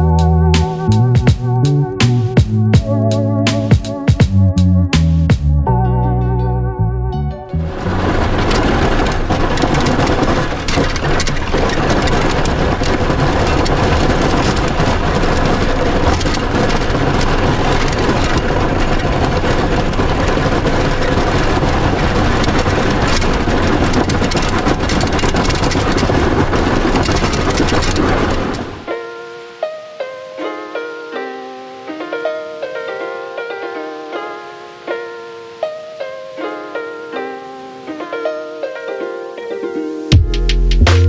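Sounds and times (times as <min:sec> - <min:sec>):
truck engine and snow plowing: 0:00.0 - 0:39.2.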